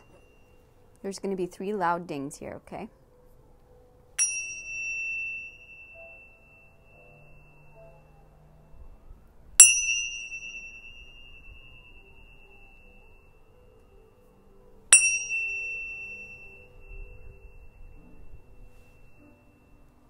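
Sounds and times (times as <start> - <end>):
tuning fork dings: 0.0 - 1.0, 4.2 - 20.0.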